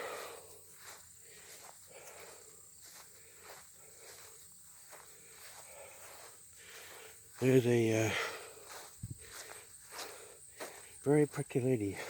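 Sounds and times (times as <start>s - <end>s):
footsteps through grass: 0.0s - 12.0s
insects buzzing: 0.0s - 12.0s.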